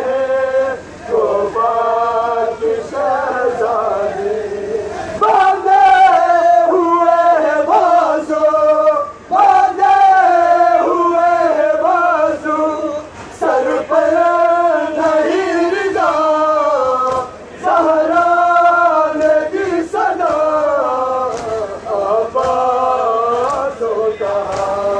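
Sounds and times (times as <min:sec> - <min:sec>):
men chanting a lament: 0:00.0 - 0:24.9.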